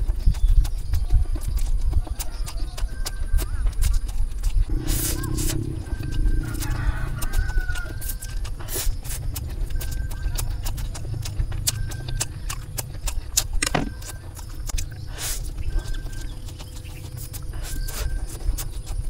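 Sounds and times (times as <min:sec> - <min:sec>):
chewing: 0:00.0 - 0:19.0
wet mouth clicks: 0:00.0 - 0:19.0.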